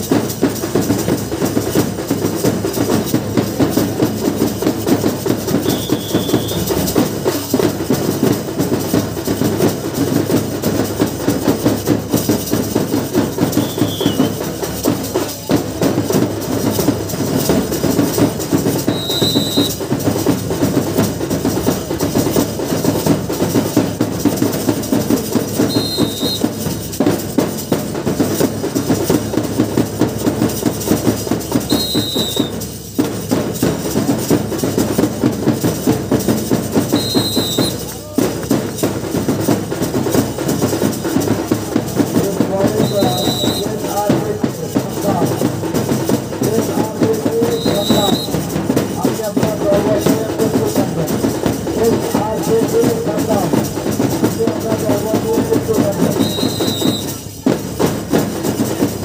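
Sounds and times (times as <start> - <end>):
drums beating fast rhythm: 0.0 - 59.0.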